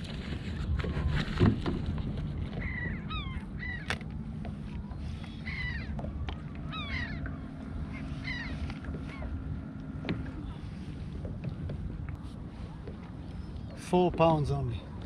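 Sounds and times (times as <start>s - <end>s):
low rumble of wind: 0.0s - 15.0s
water: 0.0s - 15.0s
gulls calling: 0.9s - 15.0s.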